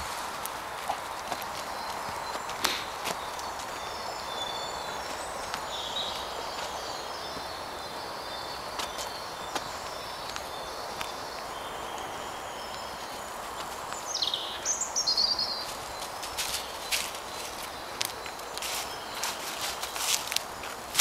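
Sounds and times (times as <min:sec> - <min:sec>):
steady outdoor hiss: 0:00.0 - 0:21.0
woodland birdsong: 0:00.0 - 0:21.0.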